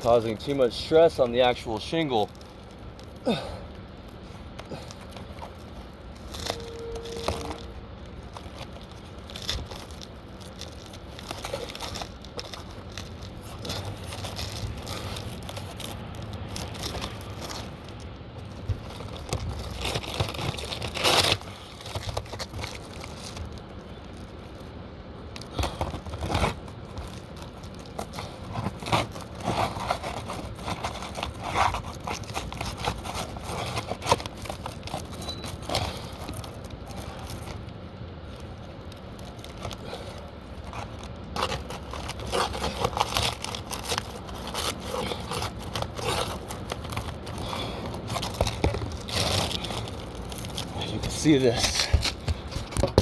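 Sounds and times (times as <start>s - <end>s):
roof shingles scraping and tearing: 0.0s - 53.0s.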